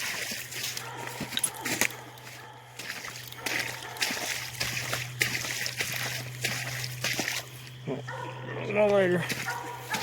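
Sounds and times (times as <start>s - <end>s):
footsteps squelching through wet ground: 0.0s - 10.0s
steady low hum: 0.0s - 10.0s.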